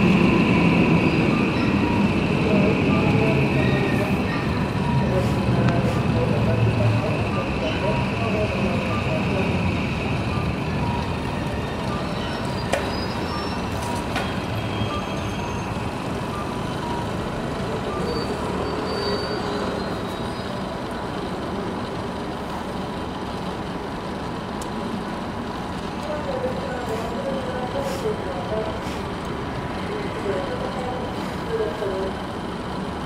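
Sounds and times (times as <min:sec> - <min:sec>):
train rumbling on elevated tracks: 0:00.0 - 0:33.0.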